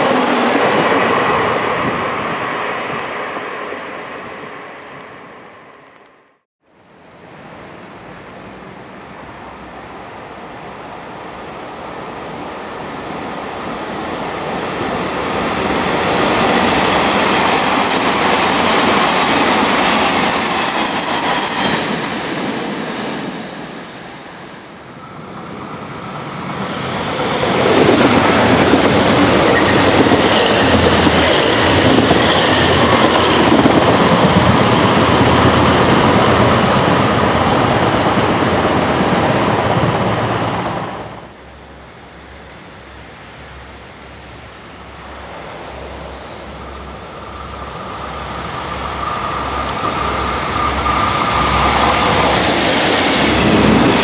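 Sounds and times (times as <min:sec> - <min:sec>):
electric train passing: 0:00.0 - 0:06.1, 0:07.2 - 0:54.0.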